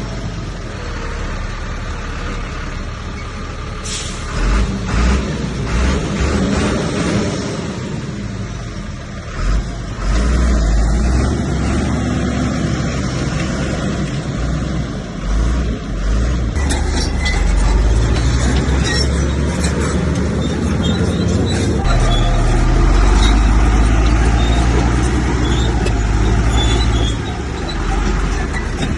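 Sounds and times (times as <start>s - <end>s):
heavy diesel machinery rumbling: 0.0s - 28.9s.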